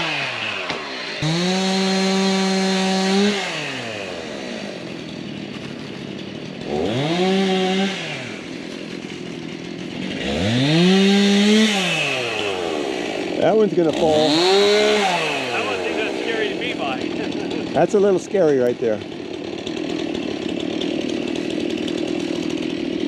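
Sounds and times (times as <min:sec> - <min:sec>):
chainsaw revving and idling: 0:00.0 - 0:23.0.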